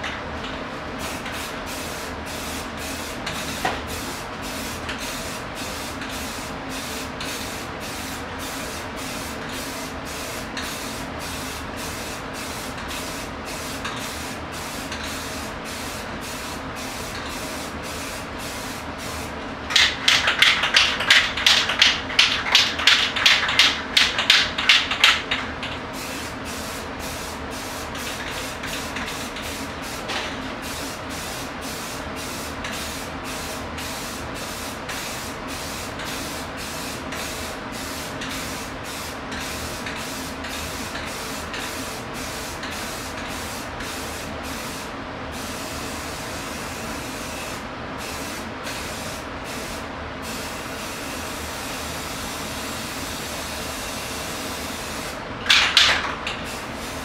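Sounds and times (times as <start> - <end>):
aerosol spray paint hissing: 1.0 - 20.7, 26.0 - 55.2, 56.4 - 57.0.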